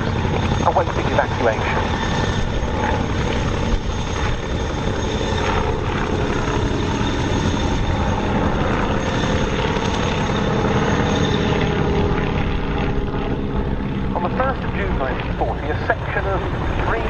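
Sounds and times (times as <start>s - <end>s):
propeller aircraft flying overhead: 0.0s - 17.0s.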